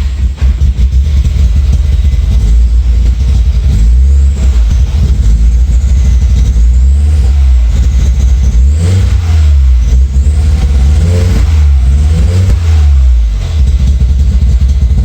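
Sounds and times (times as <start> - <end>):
misfiring engine revving: 0.0 - 15.0.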